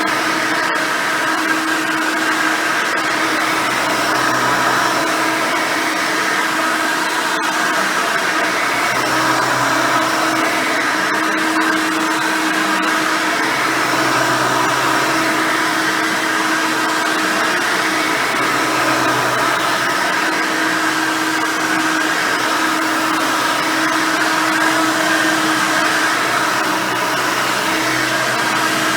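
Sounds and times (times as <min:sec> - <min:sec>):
vacuum cleaner running: 0:00.0 - 0:28.9.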